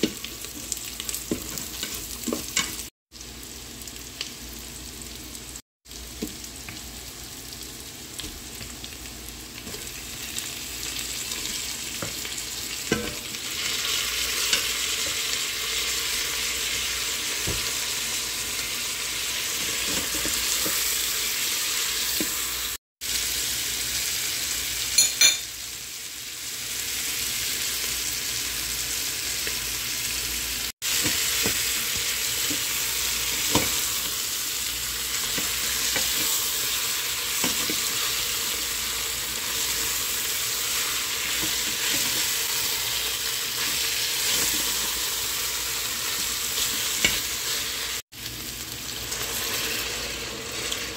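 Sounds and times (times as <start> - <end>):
food sizzling in a pot: 0.0 - 50.9.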